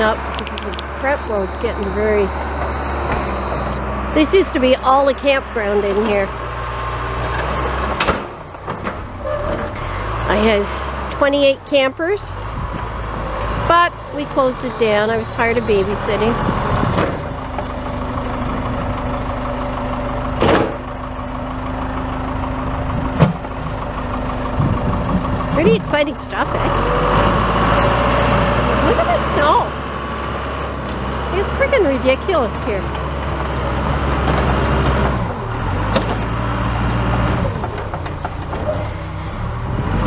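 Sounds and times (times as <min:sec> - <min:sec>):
backhoe engine running: 0:00.0 - 0:40.0.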